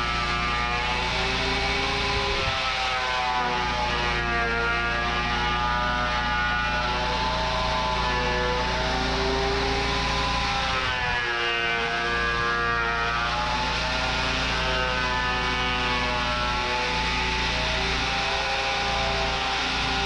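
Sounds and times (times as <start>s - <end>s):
thickness planer motor whine: 0.0s - 20.0s.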